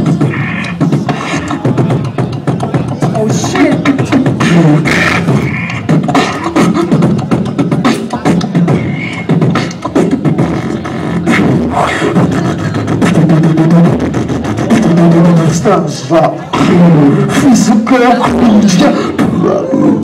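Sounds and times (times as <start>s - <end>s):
beatboxing drum hits: 0.0s - 20.0s.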